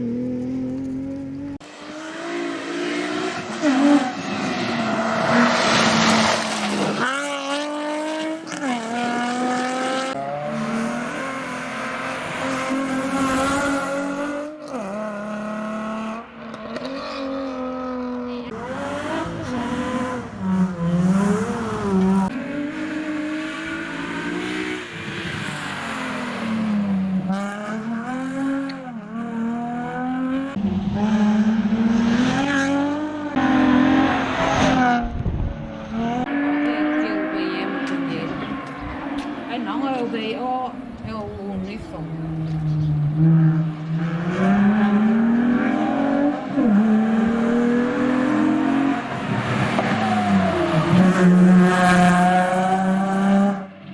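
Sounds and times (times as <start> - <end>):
rally car engine revving: 0.0 - 53.9.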